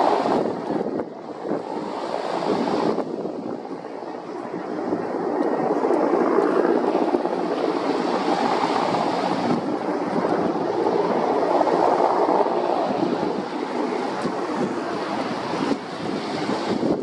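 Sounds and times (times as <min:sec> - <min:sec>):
helicopter running: 0:00.0 - 0:16.9
wind rushing over microphone: 0:00.0 - 0:17.0.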